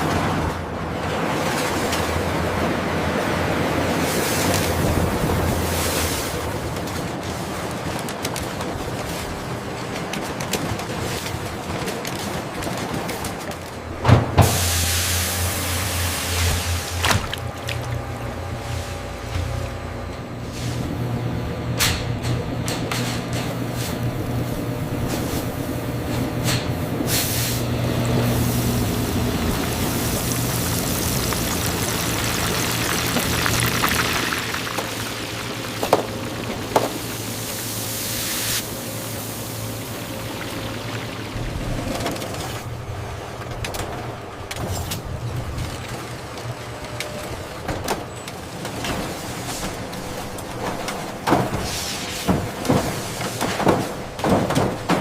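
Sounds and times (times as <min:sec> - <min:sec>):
low machinery hum: 0:00.0 - 0:55.0
noisy wash: 0:00.0 - 0:55.0.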